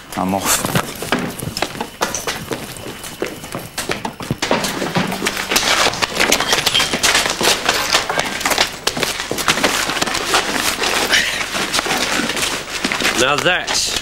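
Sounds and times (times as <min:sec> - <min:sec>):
running footsteps: 0:00.0 - 0:14.0
scuffle knocks and clatters: 0:00.0 - 0:14.0.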